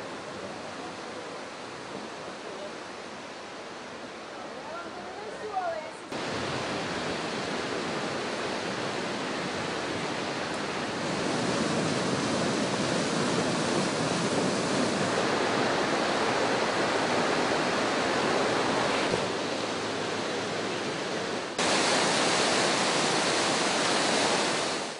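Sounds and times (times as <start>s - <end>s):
floodwater rushing: 0.0s - 24.9s.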